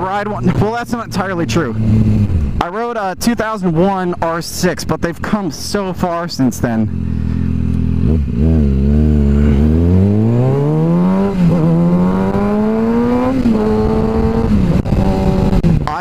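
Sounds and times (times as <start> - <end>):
motorcycle engine accelerating: 0.0 - 2.7, 3.8 - 16.0.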